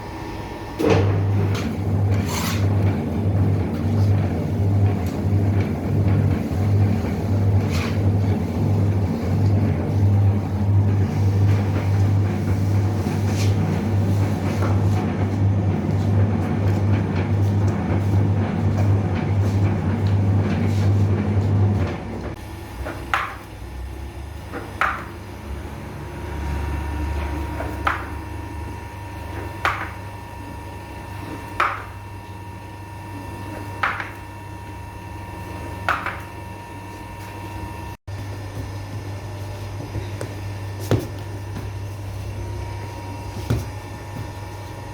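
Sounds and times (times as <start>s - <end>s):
loud machine hum: 0.0s - 44.9s.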